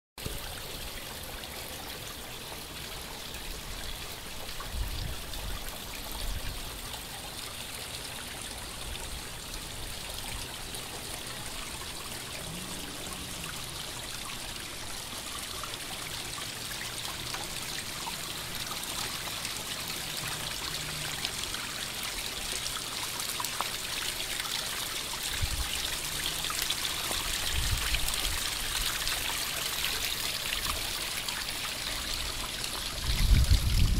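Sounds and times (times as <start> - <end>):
water trickling down rocks: 0.2 - 33.9.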